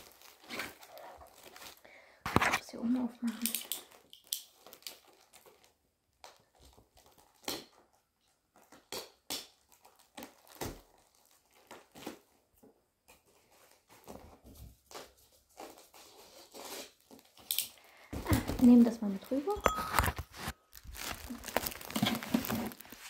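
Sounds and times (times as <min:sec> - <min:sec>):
packaging rustling and crinkling: 0:00.0 - 0:23.0.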